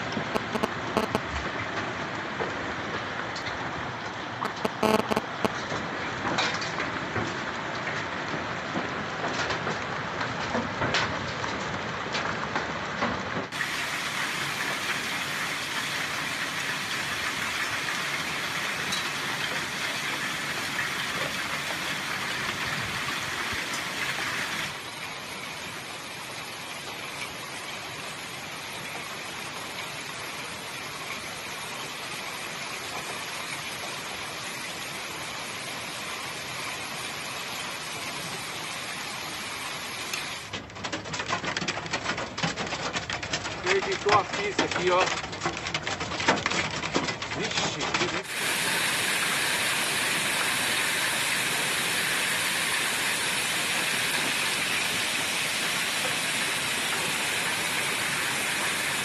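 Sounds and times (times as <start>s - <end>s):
hail and heavy rain falling: 0.0s - 59.0s.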